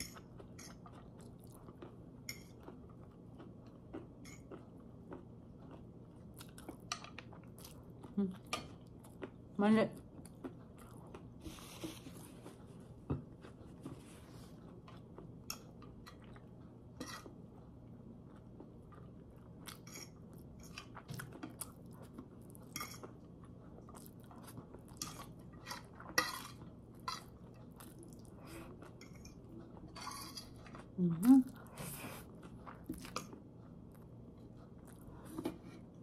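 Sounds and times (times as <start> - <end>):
person chewing noodles: 0.0 - 36.0.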